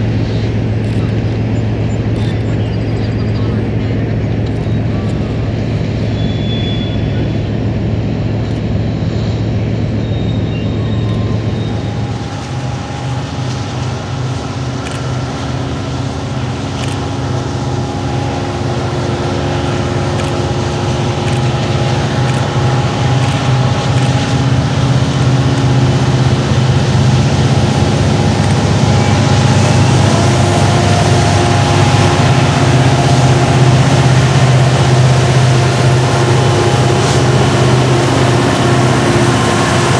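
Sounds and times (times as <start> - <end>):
diesel locomotive engines droning: 0.0 - 39.9.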